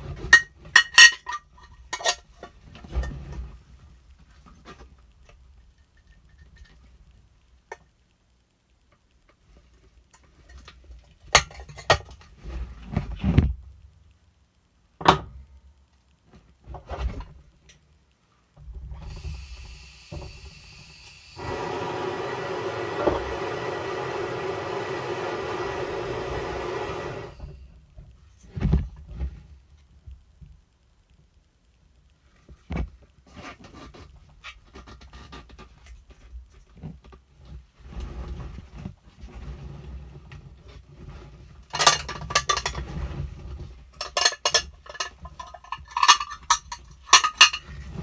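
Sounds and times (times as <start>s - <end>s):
loud steady hiss with hum: 0.0s - 48.0s.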